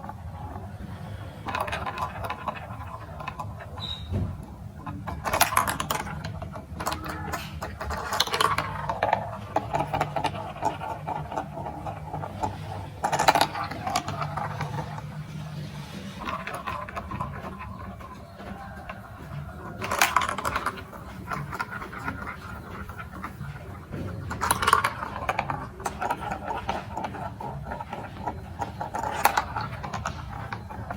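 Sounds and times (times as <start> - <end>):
marbles rattling on marble run: 0.0 - 3.8, 4.4 - 30.9.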